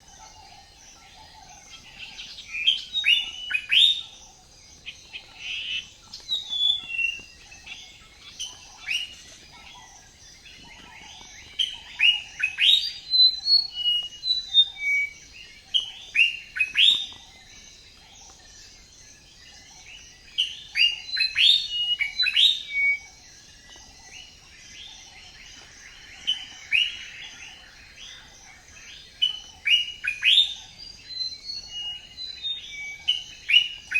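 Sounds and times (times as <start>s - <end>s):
distant birdsong: 0.0s - 33.9s
songbirds chirping: 0.0s - 33.9s.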